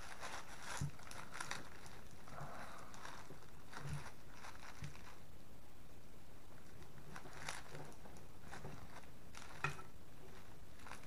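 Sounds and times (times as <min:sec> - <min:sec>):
bubble wrap rustling: 0:00.0 - 0:05.4, 0:06.6 - 0:11.0.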